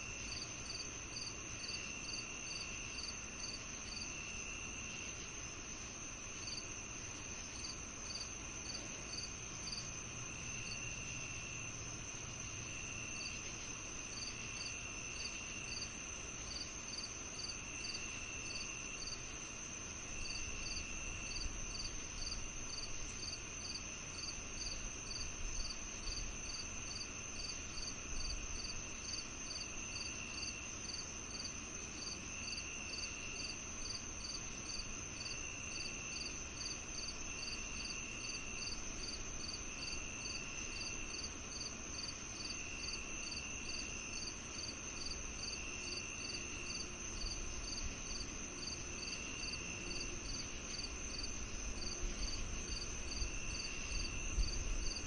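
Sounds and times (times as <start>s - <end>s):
high insect trill: 0.0s - 55.0s
lower insect trill: 0.0s - 55.0s.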